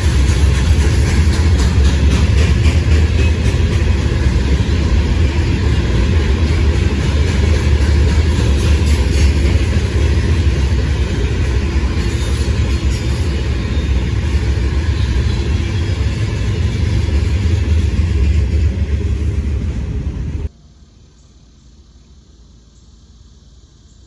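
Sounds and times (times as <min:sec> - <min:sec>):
freight train wheels on rail: 0:00.0 - 0:20.5.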